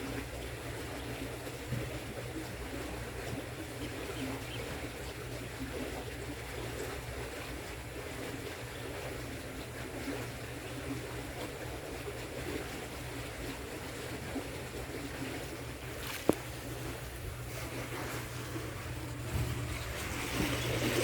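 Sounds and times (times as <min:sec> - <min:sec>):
steady low hum: 0:00.0 - 0:21.0
water trickling and lapping: 0:00.0 - 0:21.0.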